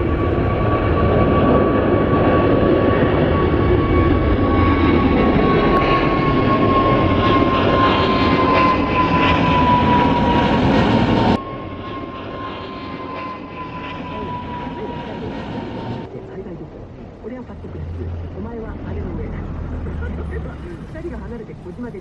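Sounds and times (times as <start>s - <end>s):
jet airliner engine whine: 0.0s - 22.0s.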